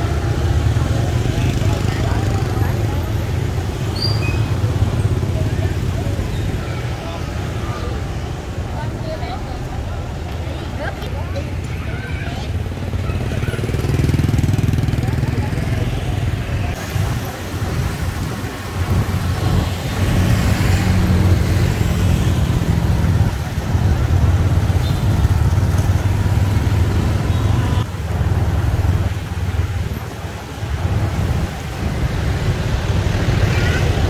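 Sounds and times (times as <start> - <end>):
street traffic engine hum: 0.0 - 34.0
tyres and passing vehicles: 0.0 - 34.0.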